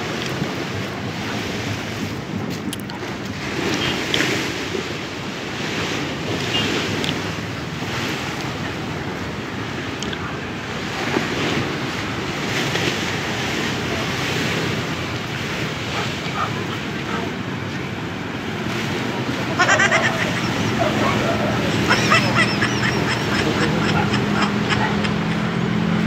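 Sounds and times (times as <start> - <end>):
steady rushing outdoor noise: 0.0 - 26.0.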